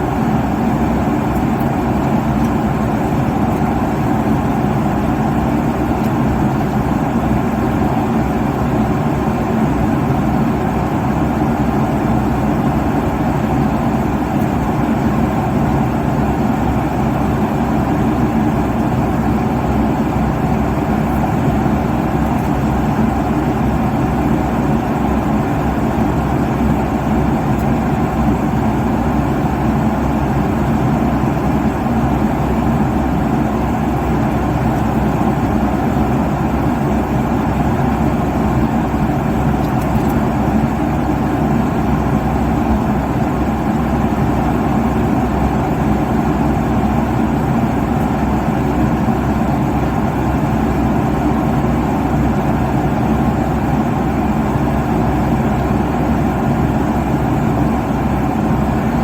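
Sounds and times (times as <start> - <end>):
airliner cabin drone: 0.0 - 59.0.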